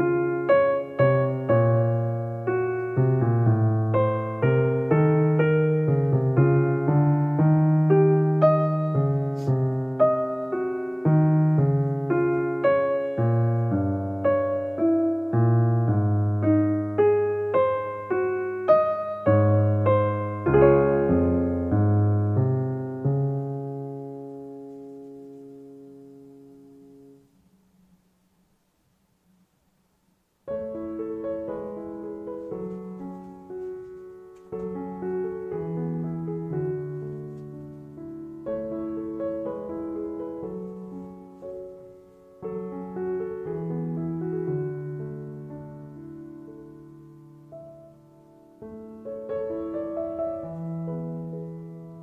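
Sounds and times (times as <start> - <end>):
piano chords and melody: 0.0 - 28.5, 30.4 - 52.0.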